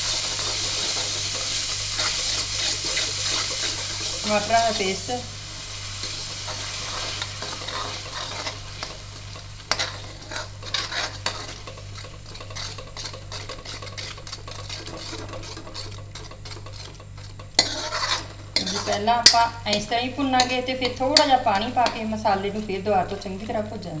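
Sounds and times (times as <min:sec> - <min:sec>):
light sizzle: 0:00.0 - 0:24.0
steady low hum: 0:00.0 - 0:24.0
spoon scraping metal pan: 0:00.1 - 0:05.0, 0:06.0 - 0:22.2.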